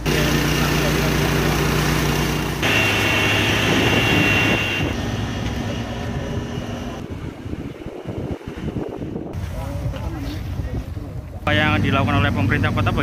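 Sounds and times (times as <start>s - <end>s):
engine running: 0.0s - 10.2s, 11.4s - 13.0s
fire hoses spraying water: 0.0s - 10.7s.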